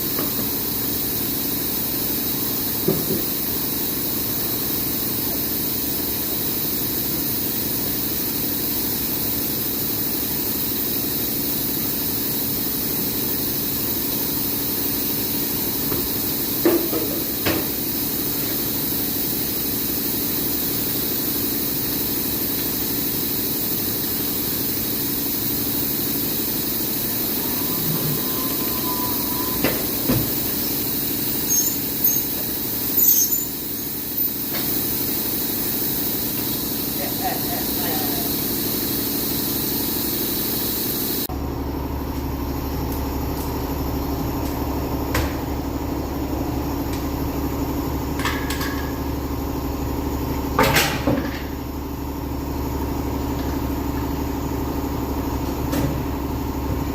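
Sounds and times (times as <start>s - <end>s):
machinery humming and hissing: 0.0s - 56.9s.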